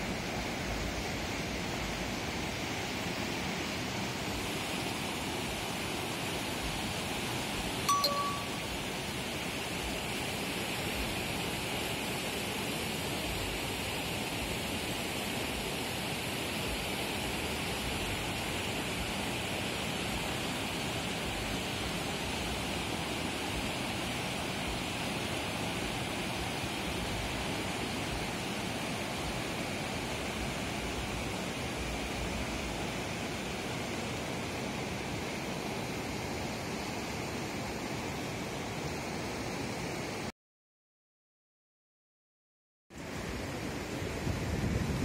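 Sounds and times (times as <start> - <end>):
river water rushing over rapids: 0.0 - 40.3, 43.0 - 45.0.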